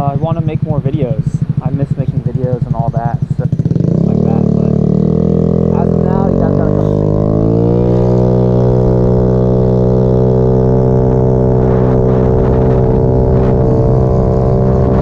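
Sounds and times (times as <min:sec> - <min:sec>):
scooter engine pulling away: 0:01.4 - 0:15.0.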